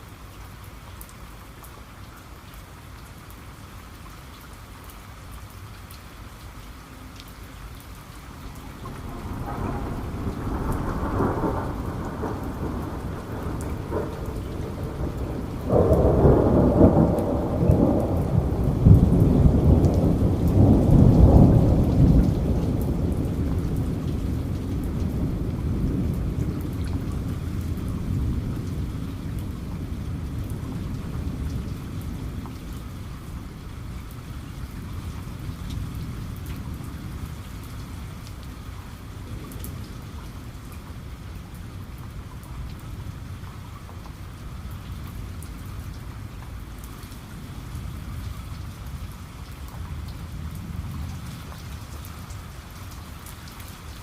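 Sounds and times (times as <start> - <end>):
steady rain falling: 0.0 - 54.0
rolling thunder rumble: 8.4 - 52.6.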